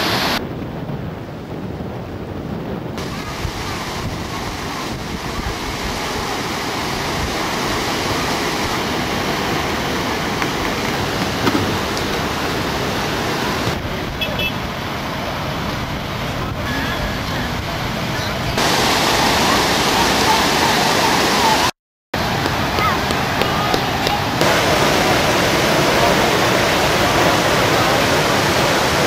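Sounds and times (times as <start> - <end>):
water rushing over weir: 0.0 - 0.4, 3.0 - 29.0.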